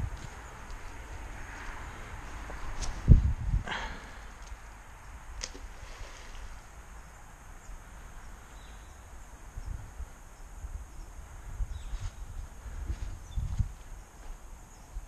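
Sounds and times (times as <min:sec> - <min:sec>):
low rumble on microphone: 0:00.0 - 0:04.2, 0:05.8 - 0:15.0.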